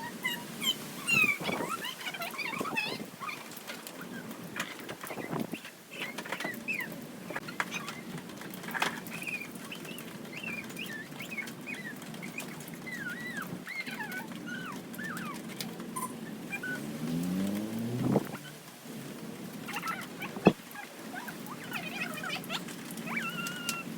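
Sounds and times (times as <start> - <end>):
small birds chirping: 0.0 - 18.6, 19.6 - 23.9.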